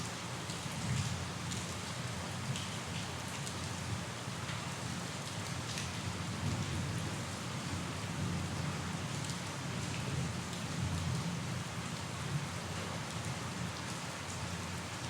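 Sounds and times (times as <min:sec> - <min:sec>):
rain pattering on a surface: 0:00.0 - 0:15.0.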